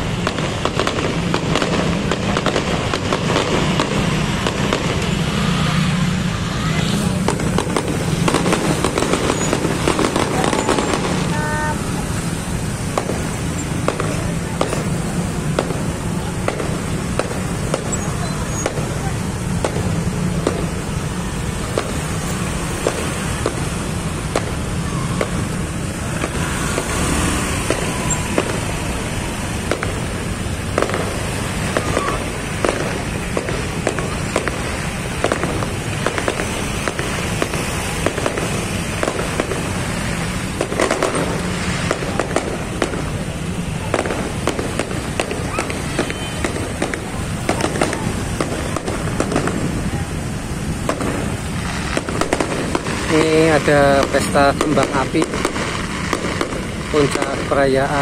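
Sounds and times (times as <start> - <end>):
fireworks bangs and crackles: 0.0 - 58.0
motorbikes rumbling: 0.0 - 58.0.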